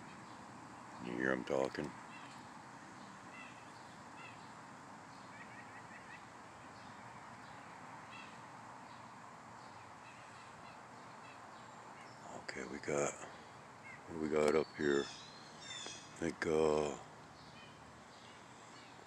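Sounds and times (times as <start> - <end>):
distant wild birds calling: 0.0 - 19.0.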